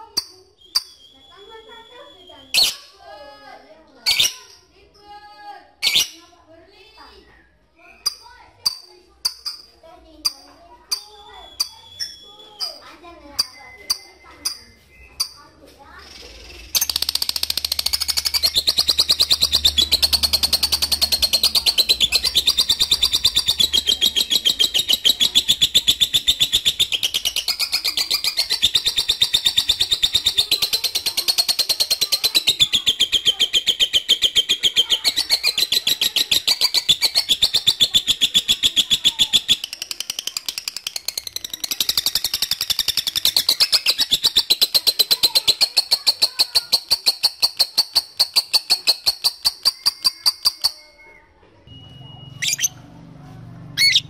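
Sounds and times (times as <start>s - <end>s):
lovebird chattering trill: 0.0s - 2.9s, 4.0s - 4.6s, 5.8s - 6.3s, 7.8s - 51.0s, 52.4s - 52.7s, 53.8s - 54.0s.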